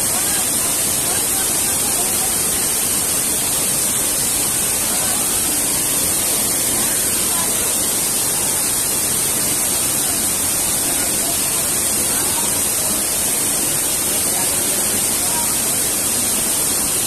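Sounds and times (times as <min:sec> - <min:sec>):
faint voices of people: 0:00.0 - 0:17.0
waterfall pouring over rocks: 0:00.0 - 0:17.0.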